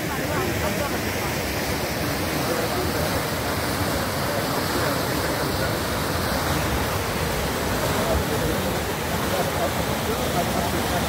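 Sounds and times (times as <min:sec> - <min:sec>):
flooded river rushing: 0:00.0 - 0:11.0.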